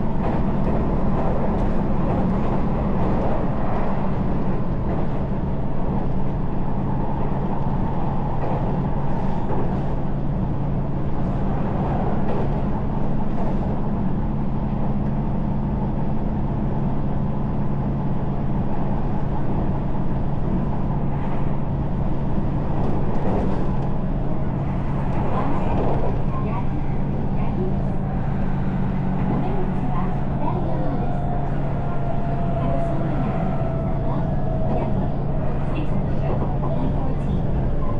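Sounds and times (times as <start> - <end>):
electric train hum: 0.0 - 37.9
wheels rumbling on rails: 0.0 - 37.9.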